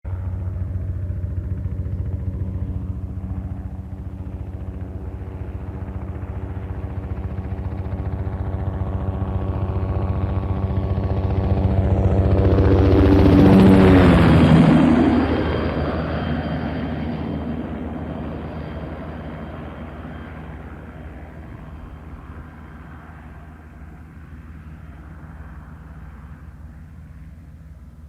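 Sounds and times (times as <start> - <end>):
helicopter rotor chop: 0.1 - 27.9.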